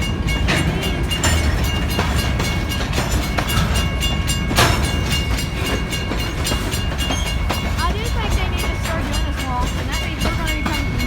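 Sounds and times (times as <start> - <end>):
low train rumble: 0.0 - 11.0
train wheels clacking over rail joints: 0.0 - 11.0.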